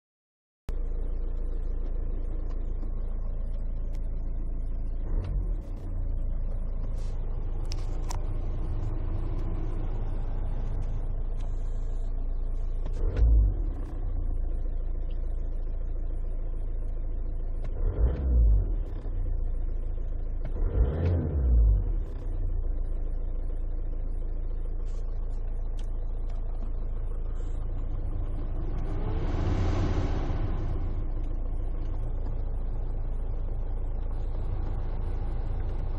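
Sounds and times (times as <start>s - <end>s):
road and engine rumble: 0.7s - 35.9s.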